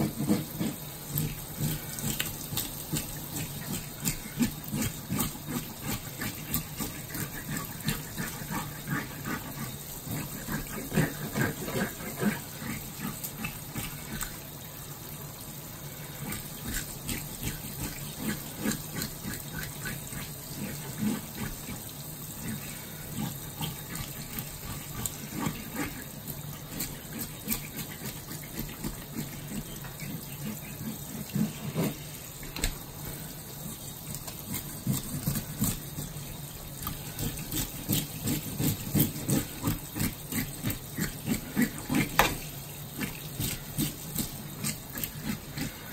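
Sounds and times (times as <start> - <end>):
hands rinsing fish splashing: 0.0 - 45.9.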